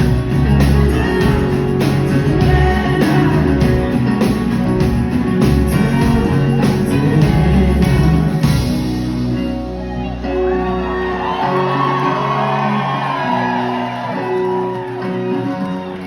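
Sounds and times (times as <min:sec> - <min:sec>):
bass guitar: 0:00.0 - 0:16.0
electric guitar: 0:00.0 - 0:16.0.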